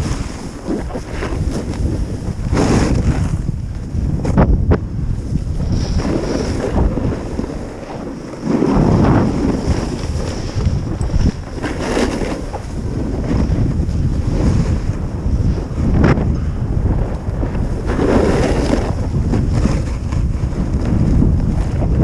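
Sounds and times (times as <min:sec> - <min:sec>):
skis scraping snow: 0:00.0 - 0:04.5, 0:05.2 - 0:16.0, 0:17.0 - 0:22.0
wind rushing over microphone: 0:00.0 - 0:22.0.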